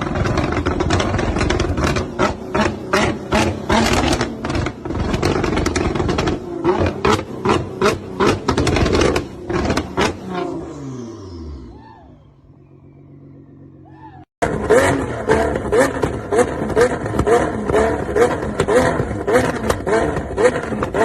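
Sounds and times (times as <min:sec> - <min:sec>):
exhaust pops and cracks: 0:00.0 - 0:10.4, 0:14.4 - 0:21.0
loud car exhaust: 0:00.0 - 0:21.0.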